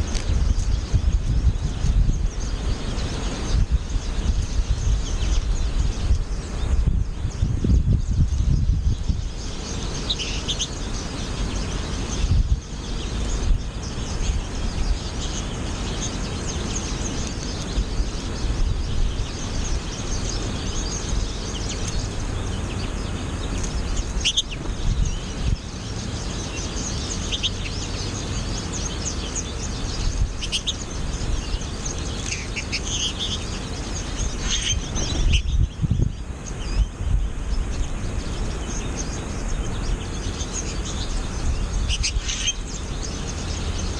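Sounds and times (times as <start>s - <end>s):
finches chirping and twittering: 0.0s - 43.9s
wind rumbling on microphone: 0.0s - 43.9s.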